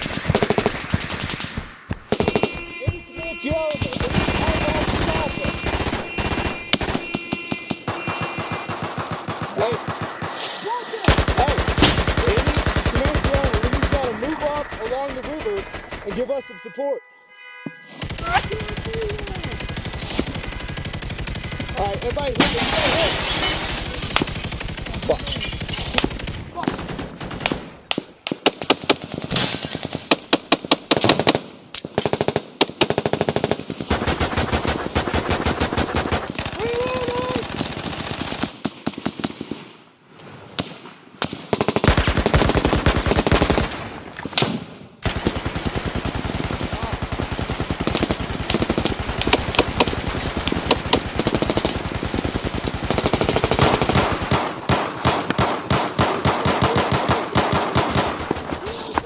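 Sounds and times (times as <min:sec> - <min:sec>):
automatic gunfire bursts: 0:00.0 - 0:10.5, 0:11.1 - 0:16.3, 0:18.0 - 0:27.7, 0:32.1 - 0:39.4, 0:41.5 - 0:43.9, 0:45.0 - 0:58.9.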